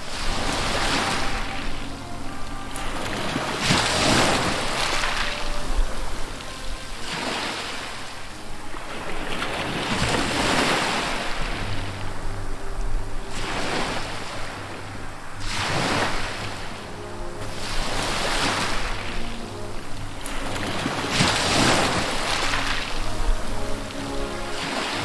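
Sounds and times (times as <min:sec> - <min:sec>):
low steady hum: 0:00.0 - 0:25.0
wind on microphone: 0:00.0 - 0:25.0.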